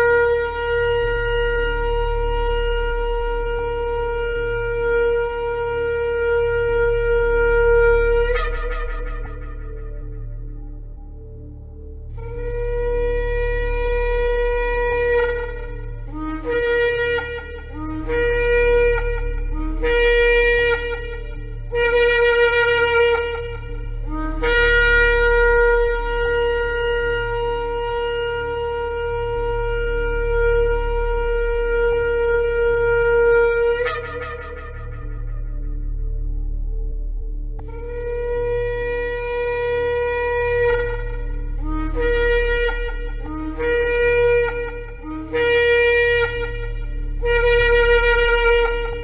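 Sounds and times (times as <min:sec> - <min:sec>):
ram's horn blasts: 0:00.0 - 0:37.0, 0:37.6 - 0:49.0
steady low hum: 0:00.0 - 0:49.0.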